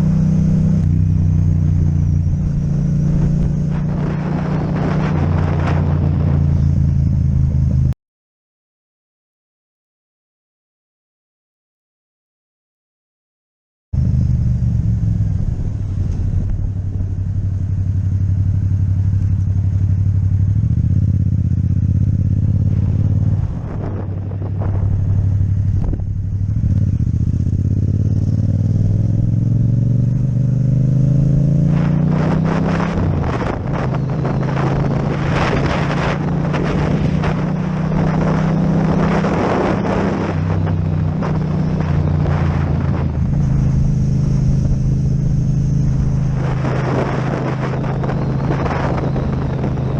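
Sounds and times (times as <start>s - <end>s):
wind over microphone: 0.0s - 7.9s, 14.0s - 49.9s
motorcycle engine accelerating: 0.0s - 8.0s, 14.0s - 49.9s.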